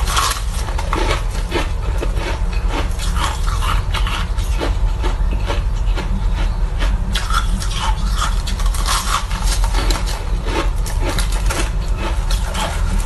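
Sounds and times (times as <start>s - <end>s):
crunching and chewing shaved ice: 0.0s - 13.0s
steady low hum: 0.0s - 13.0s.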